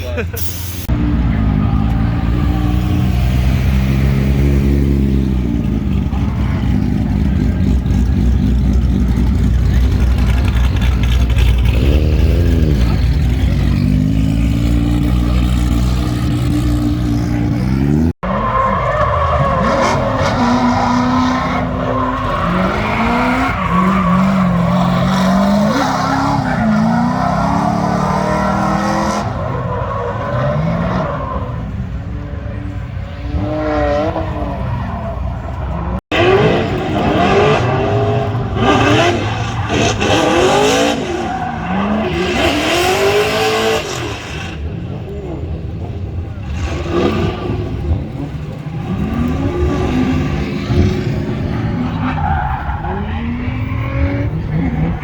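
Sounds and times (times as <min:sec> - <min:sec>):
tyres squealing and skidding: 0:00.0 - 0:44.9, 0:48.6 - 0:55.0
car engines revving: 0:00.0 - 0:55.0.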